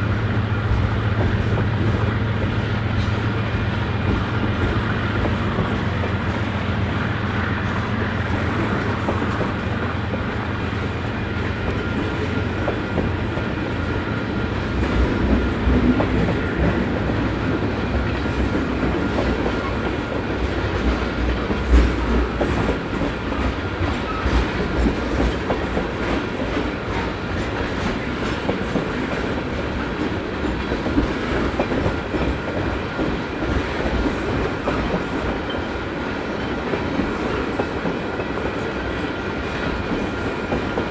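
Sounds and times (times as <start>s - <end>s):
train rumble: 0.0s - 40.9s
wheels clacking over rail joints: 0.3s - 40.9s.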